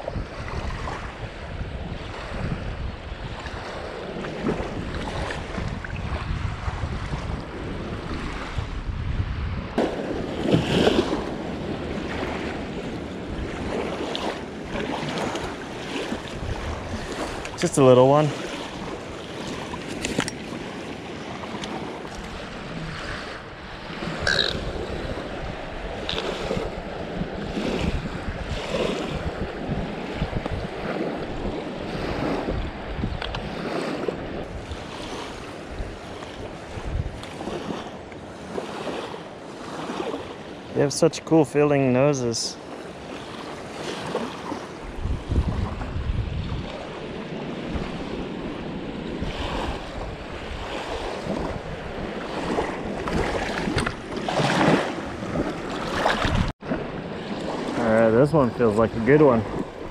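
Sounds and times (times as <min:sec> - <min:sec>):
small waves lapping: 0:00.0 - 0:08.7, 0:09.7 - 0:59.9
river water washing on bank: 0:00.0 - 0:08.9, 0:09.6 - 0:59.9
wind rumbling on microphone: 0:00.0 - 0:40.7, 0:42.4 - 0:59.9.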